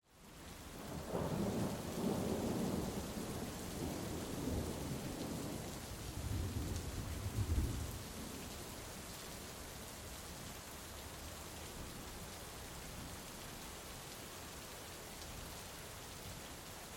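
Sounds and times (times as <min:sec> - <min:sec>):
steady rain hissing: 0:00.0 - 0:16.9.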